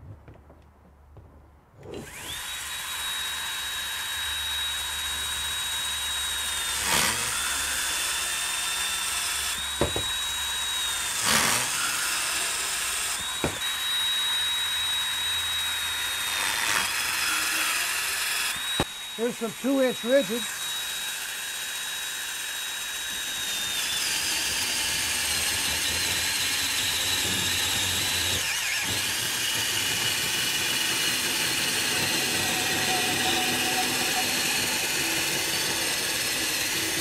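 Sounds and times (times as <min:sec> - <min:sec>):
band saw motor whine: 0:01.8 - 0:37.0.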